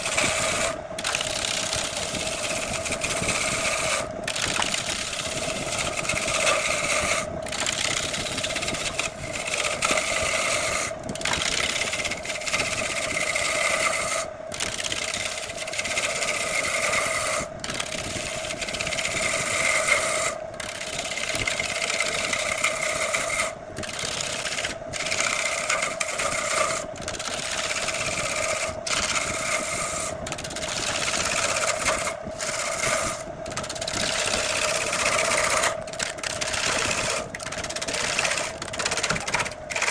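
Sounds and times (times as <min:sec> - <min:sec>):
turning tool cutting wood: 0:00.0 - 0:39.9
wood lathe motor hum: 0:00.0 - 0:39.9.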